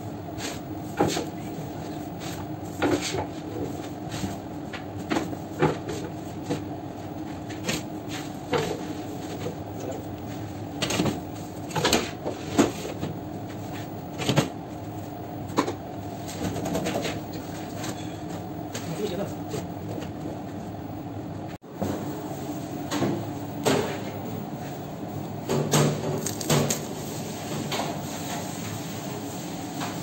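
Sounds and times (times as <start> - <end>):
oven machine hum: 0.0 - 30.0.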